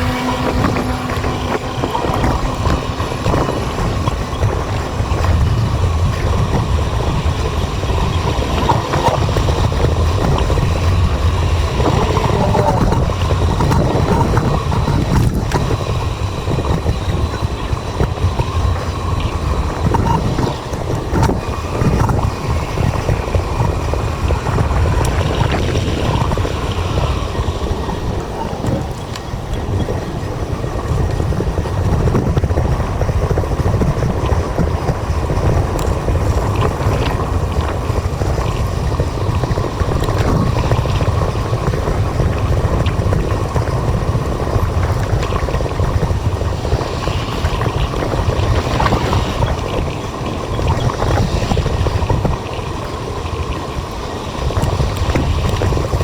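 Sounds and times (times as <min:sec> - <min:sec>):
road rumble: 0:00.0 - 0:56.0
wind noise: 0:00.0 - 0:56.0.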